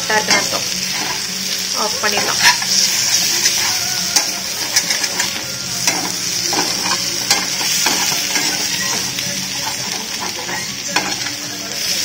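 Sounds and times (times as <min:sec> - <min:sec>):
meat sizzling in oil: 0:00.0 - 0:12.0
metal spatula scraping pan: 0:00.2 - 0:01.4, 0:02.0 - 0:11.6.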